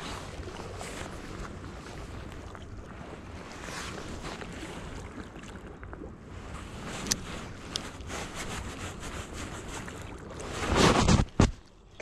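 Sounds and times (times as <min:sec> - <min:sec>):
sea water lapping: 0:00.0 - 0:12.0.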